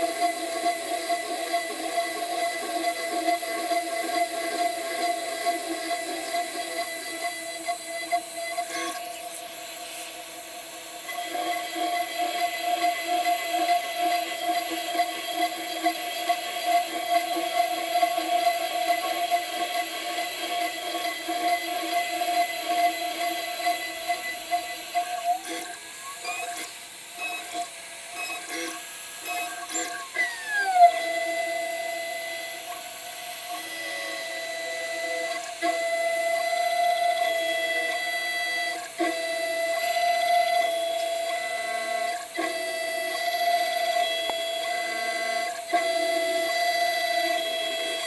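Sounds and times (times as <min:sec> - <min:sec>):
router spindle whine: 0:00.0 - 0:48.0.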